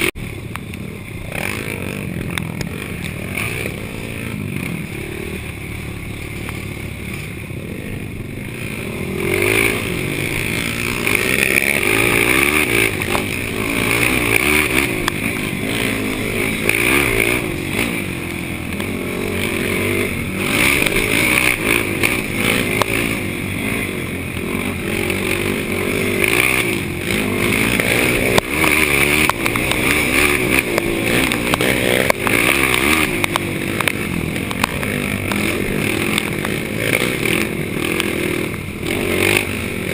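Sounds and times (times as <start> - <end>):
atv engine racing: 0.0 - 39.9.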